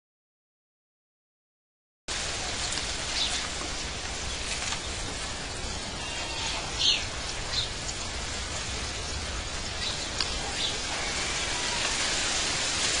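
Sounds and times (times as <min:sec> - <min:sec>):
background hiss: 0:02.1 - 0:13.0.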